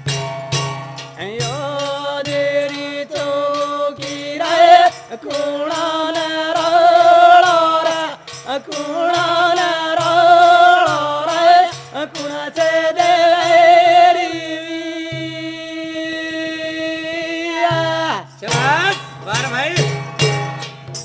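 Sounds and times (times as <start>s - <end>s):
hand drum: 0.0s - 21.0s
man singing: 1.2s - 20.0s.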